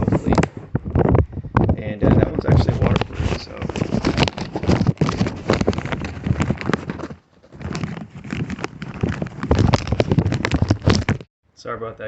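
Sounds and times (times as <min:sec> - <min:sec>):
plastic bag crinkling on microphone: 0:00.0 - 0:11.3.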